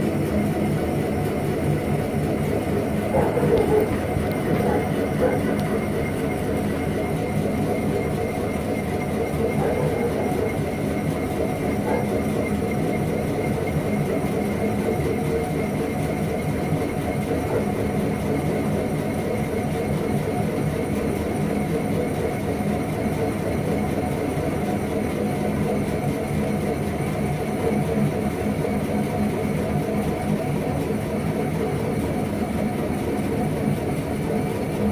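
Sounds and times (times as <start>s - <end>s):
faint high machine whine: 0.0s - 34.9s
lathe running: 0.0s - 34.9s.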